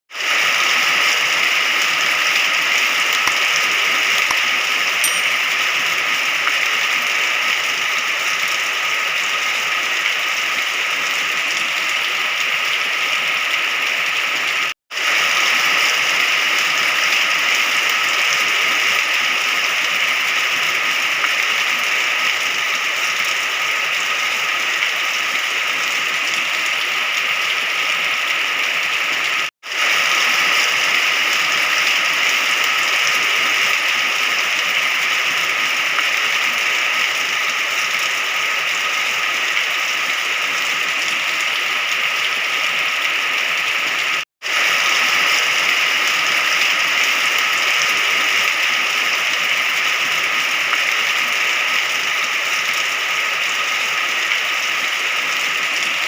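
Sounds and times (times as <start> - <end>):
steady rain: 0.1 - 56.0.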